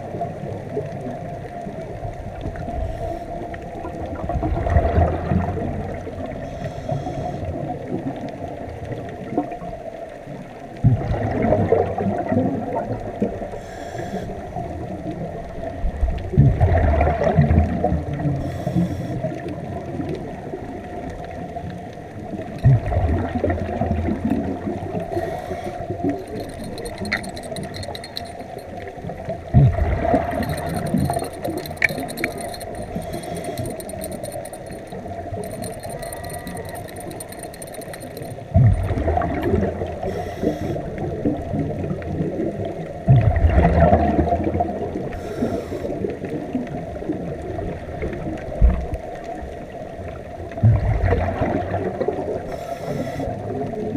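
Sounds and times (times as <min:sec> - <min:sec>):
underwater hum and water noise: 0:00.0 - 0:53.9.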